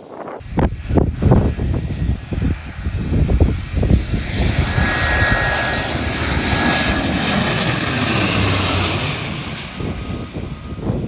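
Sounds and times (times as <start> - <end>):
airliner engines whining: 0.4 - 11.0
wind buffeting microphone: 0.4 - 11.0.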